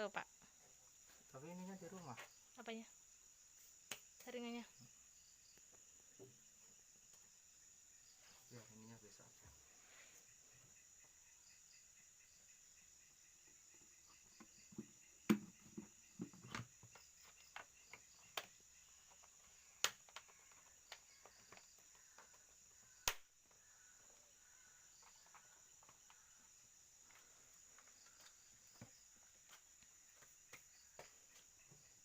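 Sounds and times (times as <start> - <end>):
high insect trill: 0.0 - 32.0.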